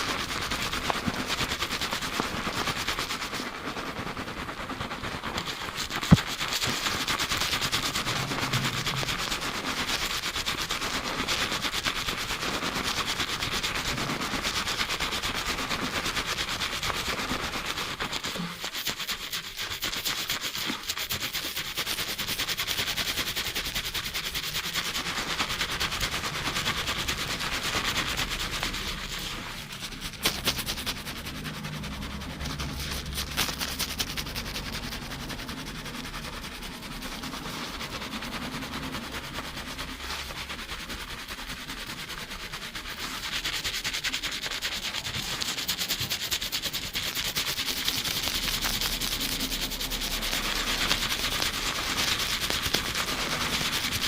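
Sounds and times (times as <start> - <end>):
fingertips scrubbing lathered hair: 0.0 - 54.0.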